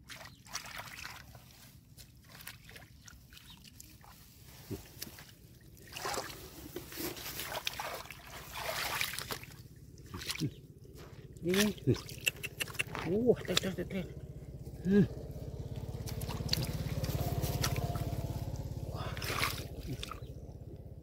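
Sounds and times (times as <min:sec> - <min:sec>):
muddy water sloshing and splashing: 0:00.0 - 0:21.0.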